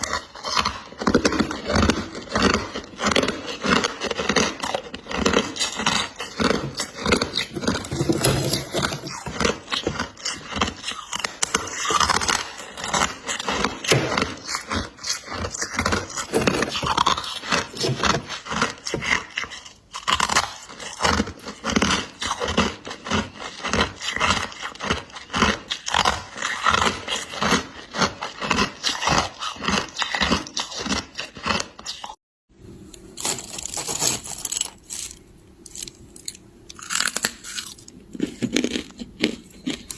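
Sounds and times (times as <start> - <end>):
frost being chewed: 0.0 - 32.2, 32.9 - 39.9.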